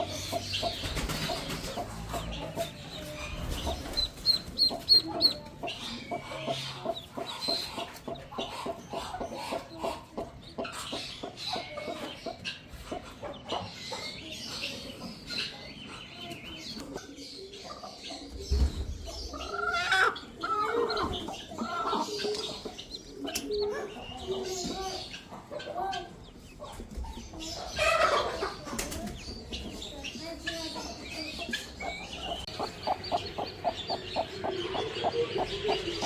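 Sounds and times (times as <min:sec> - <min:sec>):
chicks peeping: 0:00.0 - 0:36.0
hen clucking: 0:00.0 - 0:36.0.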